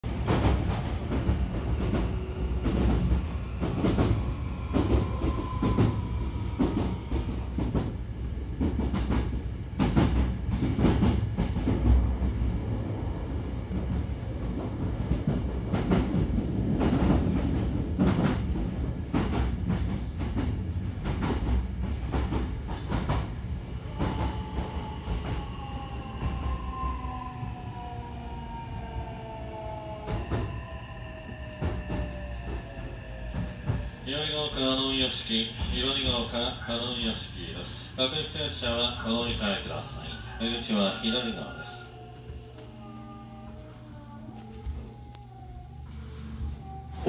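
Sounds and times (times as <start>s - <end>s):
train car low rumble: 0.0s - 47.0s.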